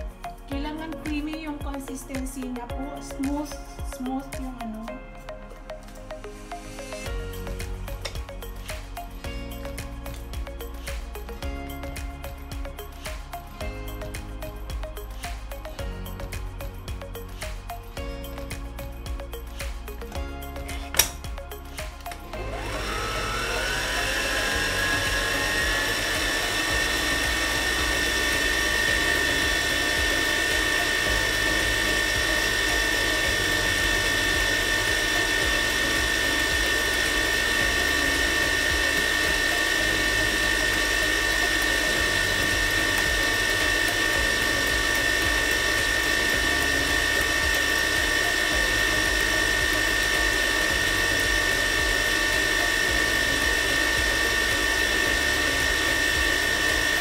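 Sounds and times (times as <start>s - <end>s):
electric mixer motor whine: 0.0s - 57.0s.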